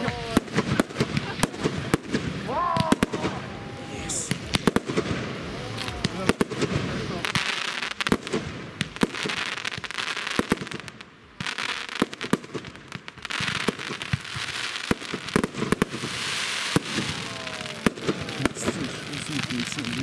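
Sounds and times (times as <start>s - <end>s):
fireworks bangs: 0.0s - 20.0s
fireworks crackling hiss: 0.0s - 20.0s.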